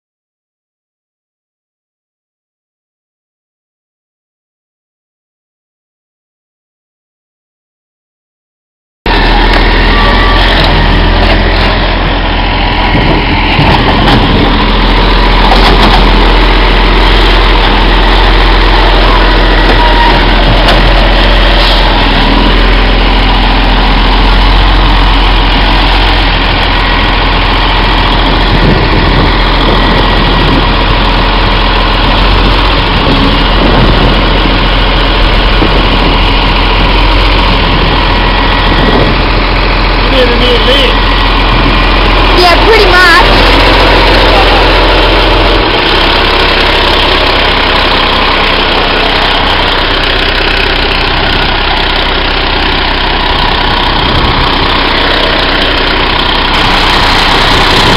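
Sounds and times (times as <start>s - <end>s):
garbage truck diesel engine idling: 9.1s - 57.9s.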